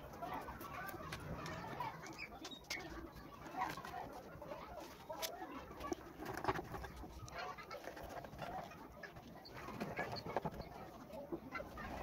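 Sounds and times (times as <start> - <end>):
birds clucking and cooing: 0.0 - 12.0.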